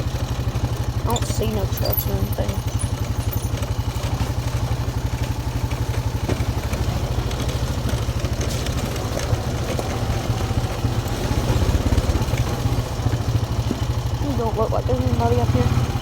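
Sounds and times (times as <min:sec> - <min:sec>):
off-road vehicle engine running: 0:00.0 - 0:16.0
rattles: 0:00.8 - 0:14.6.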